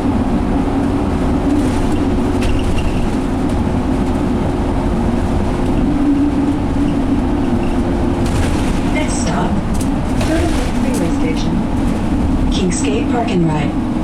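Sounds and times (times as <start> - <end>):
bus engine hum: 0.0 - 14.0
road noise: 0.0 - 14.0.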